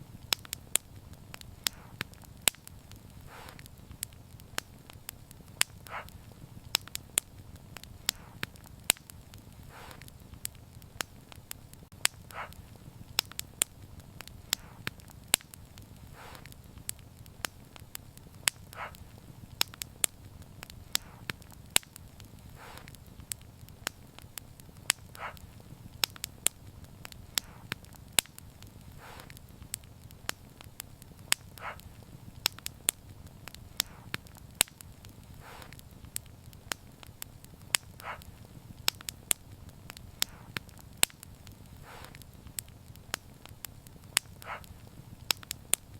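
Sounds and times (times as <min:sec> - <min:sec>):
low steady rumble: 0:00.0 - 0:45.9
wood fire crackling: 0:00.0 - 0:45.9
soft muffled pops: 0:00.1 - 0:43.3.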